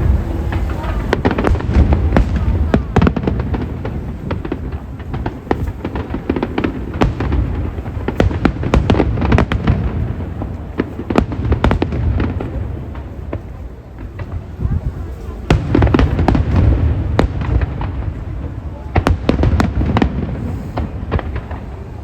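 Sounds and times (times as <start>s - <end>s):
continuous low rumble: 0.0s - 22.0s
fireworks bangs and crackles: 0.0s - 22.0s.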